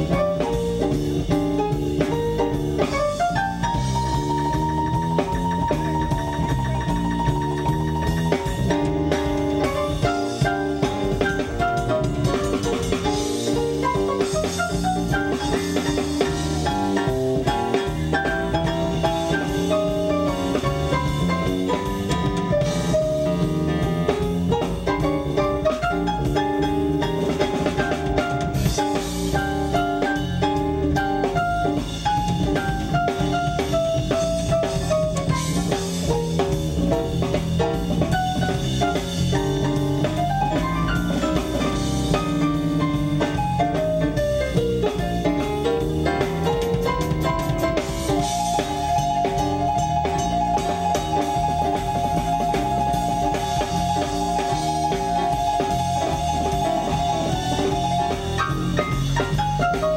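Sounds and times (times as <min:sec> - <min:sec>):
drum kit: 0:00.0 - 0:59.9
electric guitar: 0:00.0 - 0:59.9
keyboard: 0:00.0 - 0:59.9.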